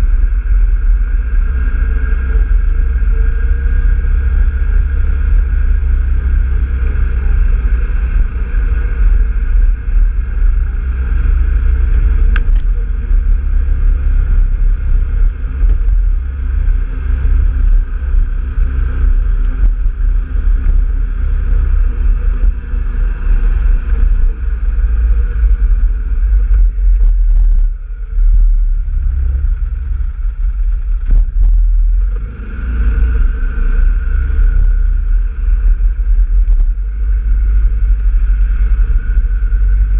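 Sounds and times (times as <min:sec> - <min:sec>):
vehicle engine running: 0:00.0 - 0:39.9
wind rumble on microphone: 0:00.0 - 0:39.9.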